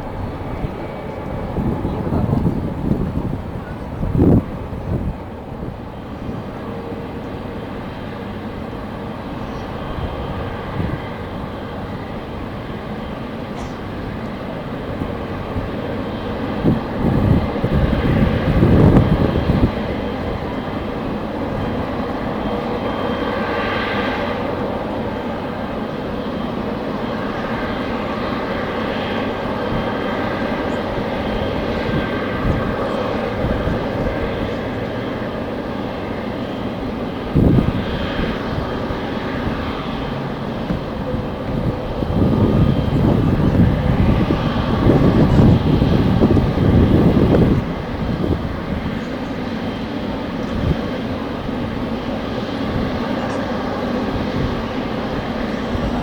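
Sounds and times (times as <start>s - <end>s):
jet airliner engine noise: 0.0s - 56.0s
wind buffeting microphone: 0.0s - 56.0s.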